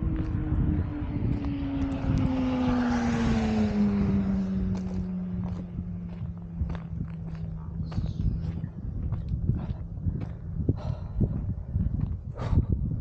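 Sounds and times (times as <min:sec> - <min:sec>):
low rumble: 0:00.0 - 0:13.0
propeller aircraft flying over: 0:00.0 - 0:13.0.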